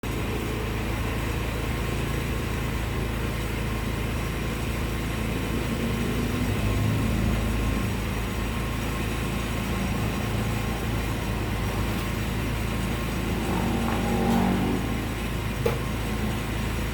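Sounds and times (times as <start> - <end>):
scooter engine idling: 0.0 - 16.9.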